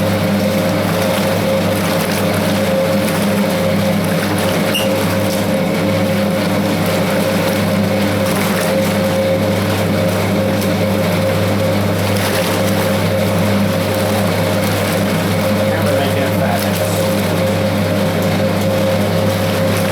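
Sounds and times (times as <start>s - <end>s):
washing machine motor humming: 0.0s - 19.9s
water churning: 0.0s - 19.9s.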